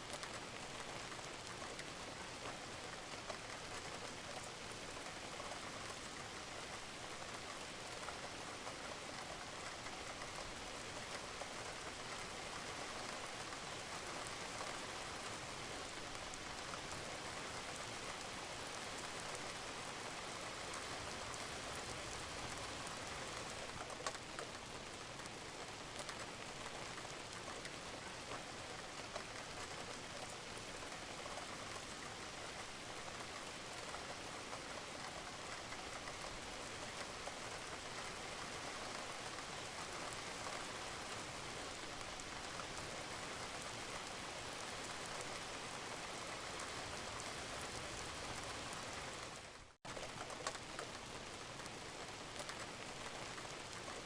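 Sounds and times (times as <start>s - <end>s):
rain on a roof: 0.0s - 54.0s.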